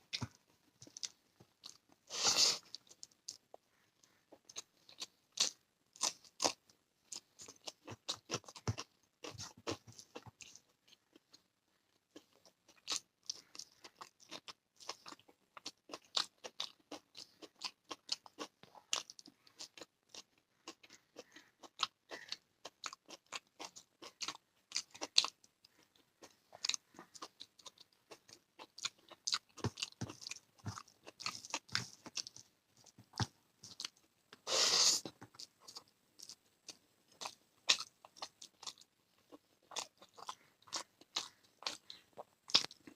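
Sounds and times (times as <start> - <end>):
chewing and crunching: 2.6 - 34.2, 35.1 - 42.9.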